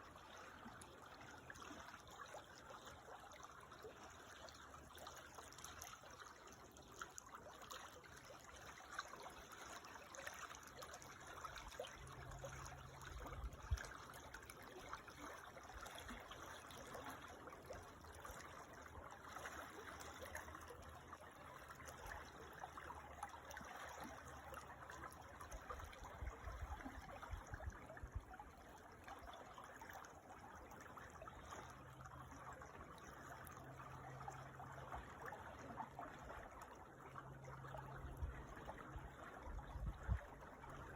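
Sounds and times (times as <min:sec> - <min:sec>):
creek water babbling: 0:00.0 - 0:40.9.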